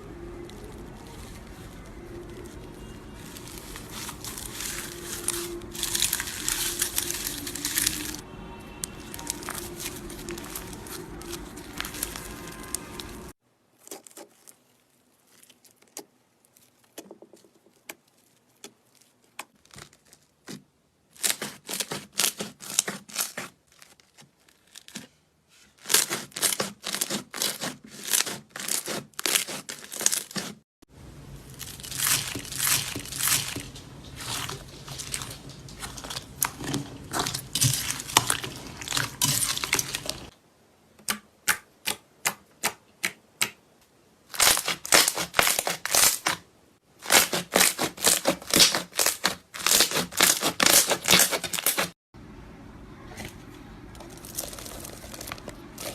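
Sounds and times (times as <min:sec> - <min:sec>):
slime crackling and popping: 0:00.0 - 0:08.2, 0:08.8 - 0:25.0, 0:25.8 - 0:30.6, 0:31.2 - 0:40.3, 0:44.3 - 0:46.4, 0:47.0 - 0:51.9, 0:54.0 - 0:55.9.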